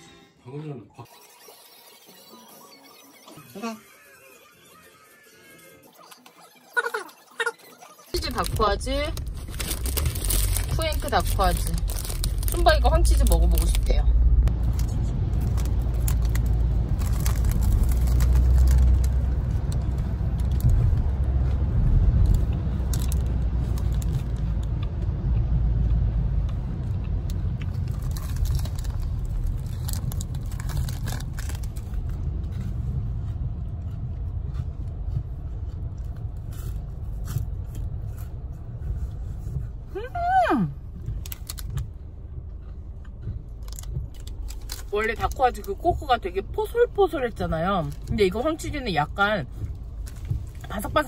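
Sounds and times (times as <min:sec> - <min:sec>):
low steady rumble: 0:08.2 - 0:51.0.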